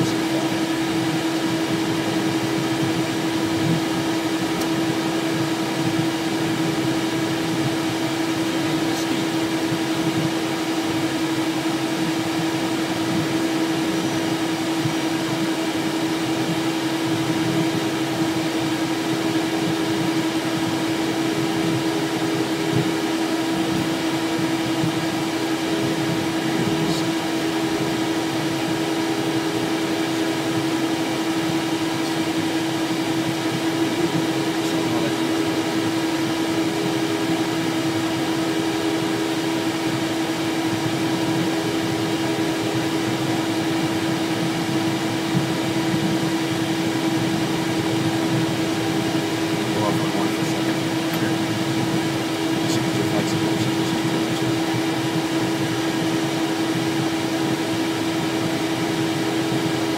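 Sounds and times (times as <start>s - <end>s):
jet engines idling hum: 0.0s - 59.9s.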